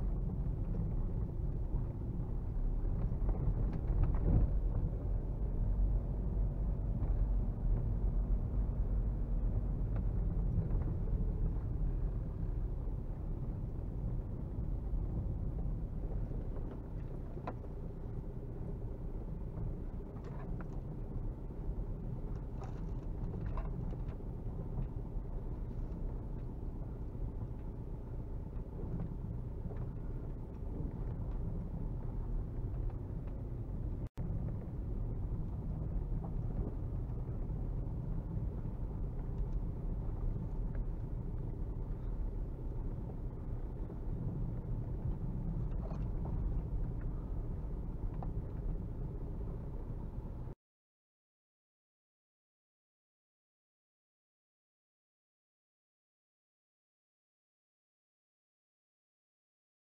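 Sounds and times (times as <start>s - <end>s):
diesel engine at low revs: 0.0s - 50.6s.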